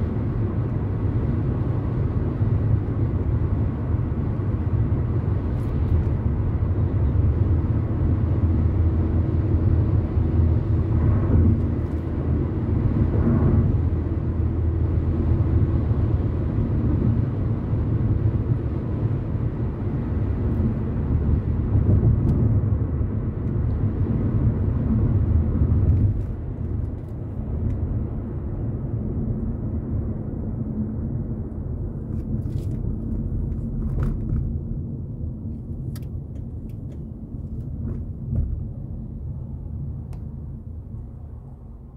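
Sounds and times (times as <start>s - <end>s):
car road noise and engine rumble: 0.0s - 41.9s.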